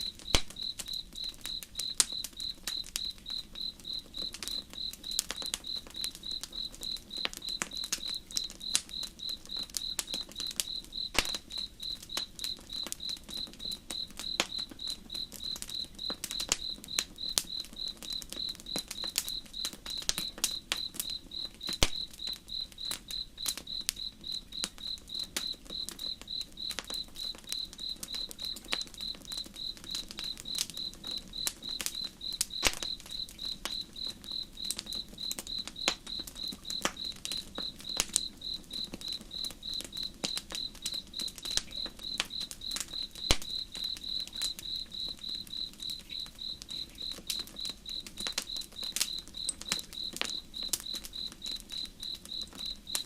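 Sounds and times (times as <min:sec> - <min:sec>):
campfire crackling and popping: 0:00.0 - 0:53.0
cricket chirping: 0:00.0 - 0:53.0.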